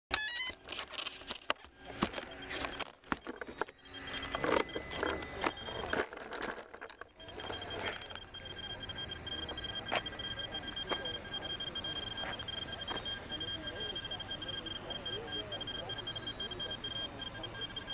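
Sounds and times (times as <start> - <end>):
high electronic whine: 0.1 - 17.9
rapidly pulsing thin tone: 1.2 - 17.9.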